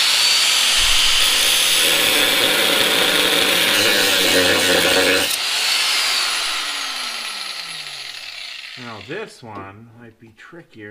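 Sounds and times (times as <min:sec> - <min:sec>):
grinder cutting steel: 0:00.0 - 0:09.3.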